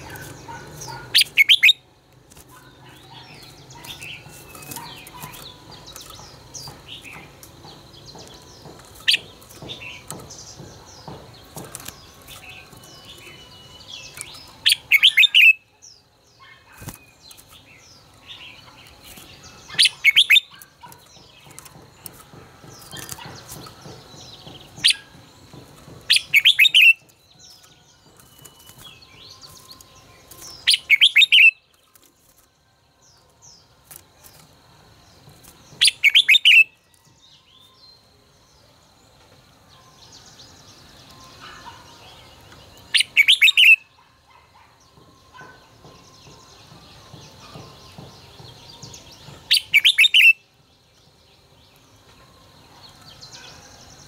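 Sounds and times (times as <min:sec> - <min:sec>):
soft bird chirps: 0:00.0 - 0:34.6, 0:39.7 - 0:54.0
bird song phrases: 0:00.0 - 0:54.0.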